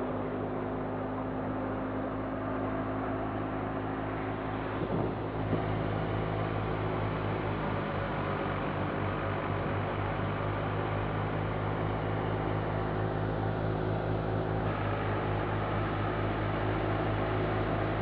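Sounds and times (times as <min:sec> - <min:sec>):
rushing blower noise: 0:00.0 - 0:18.0
thresher mechanical hum: 0:00.0 - 0:18.0.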